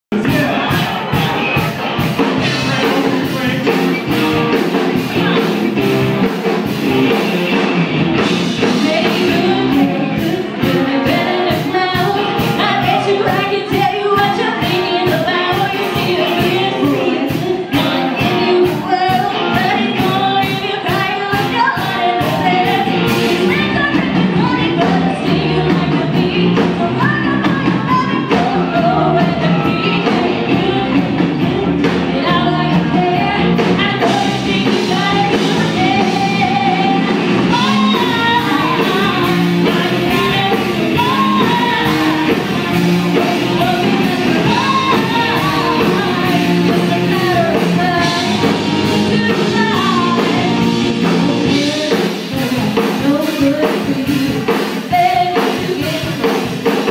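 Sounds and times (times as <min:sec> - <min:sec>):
person singing: 0:00.1 - 0:06.0, 0:08.4 - 0:56.9
live rock band playing: 0:00.1 - 0:56.9.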